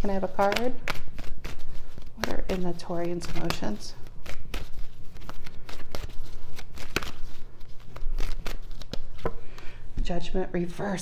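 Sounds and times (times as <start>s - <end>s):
cards being shuffled: 0.0s - 9.7s.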